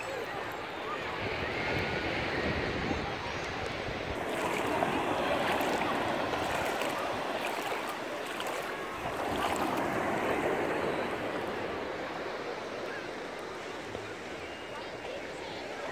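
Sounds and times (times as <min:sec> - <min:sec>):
shallow water lapping: 0:00.0 - 0:15.8
small waves washing in: 0:00.0 - 0:15.9.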